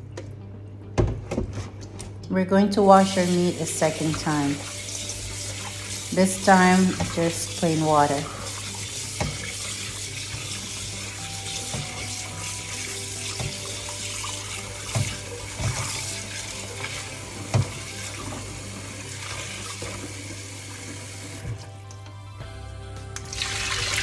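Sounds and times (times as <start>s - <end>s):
kitchen tap running: 1.0s - 22.0s, 23.2s - 24.0s.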